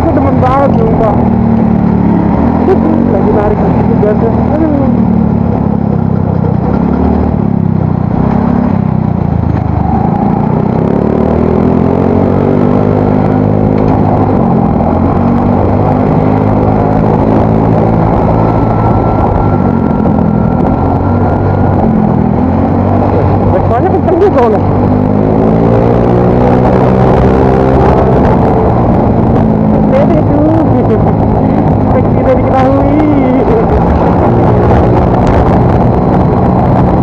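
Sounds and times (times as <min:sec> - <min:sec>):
scooter engine accelerating: 0:00.0 - 0:37.0.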